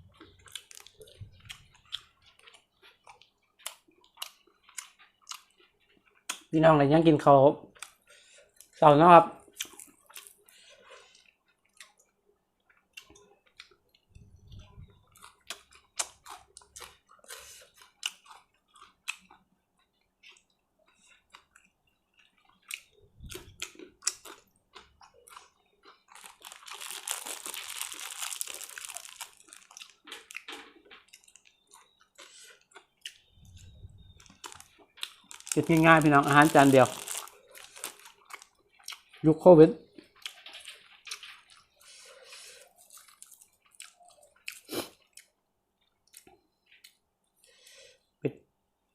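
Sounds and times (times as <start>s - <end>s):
person chewing food: 0.0s - 6.5s, 7.7s - 8.8s, 9.4s - 39.2s, 39.9s - 48.0s.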